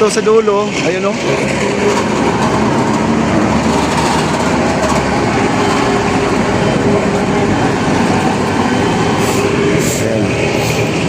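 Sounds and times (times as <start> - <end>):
loud mechanical rumble: 0.0 - 11.0.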